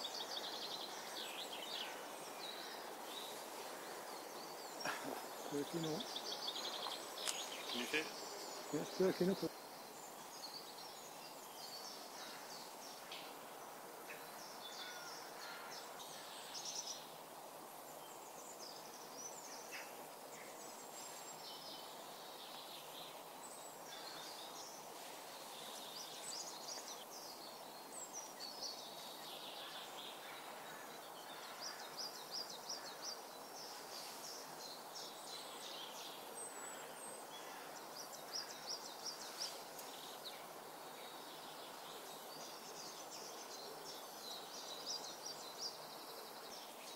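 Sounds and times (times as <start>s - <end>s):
steady hiss: 0.0s - 46.9s
wild birds calling and singing: 0.0s - 46.9s.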